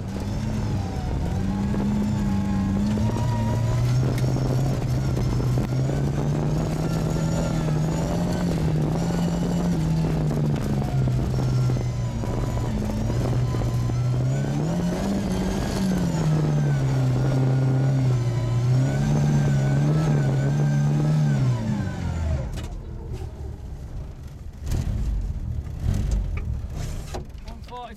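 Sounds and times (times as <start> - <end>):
rally car engine revving: 0.0 - 27.8.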